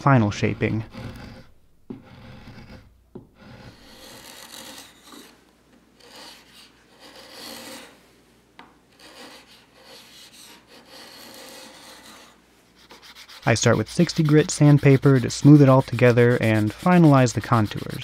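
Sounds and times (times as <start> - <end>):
chisel scraping wood: 0.2 - 5.4, 6.0 - 8.0, 8.9 - 18.0.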